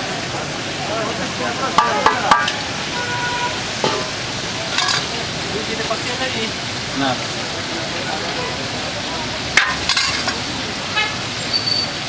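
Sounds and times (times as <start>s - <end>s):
hot oil sizzling in a pot: 0.0s - 12.0s.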